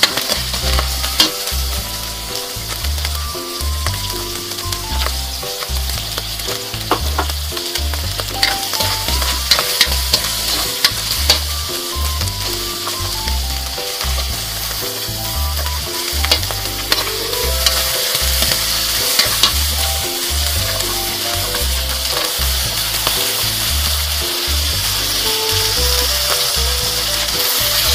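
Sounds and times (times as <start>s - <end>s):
metal spatula scraping wok: 0.0s - 27.9s
music with bass beat: 0.0s - 27.9s
vegetables sizzling in oil: 0.0s - 27.9s.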